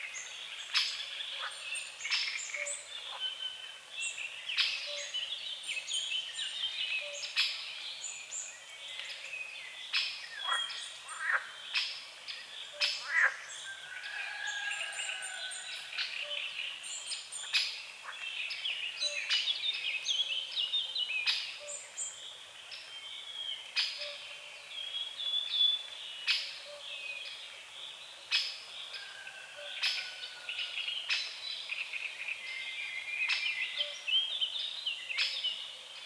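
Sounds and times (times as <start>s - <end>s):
songbirds chirping and singing: 0.0s - 36.0s.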